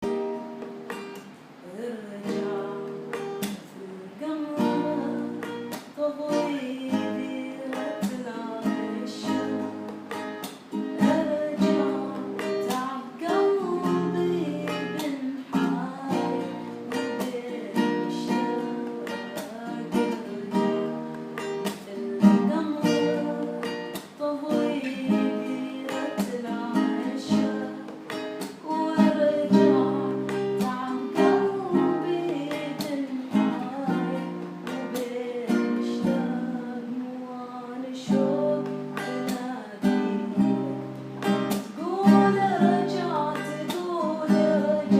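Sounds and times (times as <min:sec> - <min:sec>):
strummed acoustic guitar music: 0:00.0 - 0:44.9.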